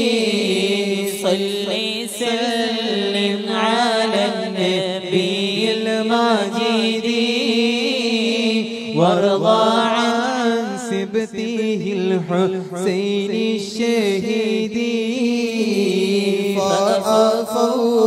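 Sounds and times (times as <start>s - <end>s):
person chanting verses: 0.0s - 18.0s.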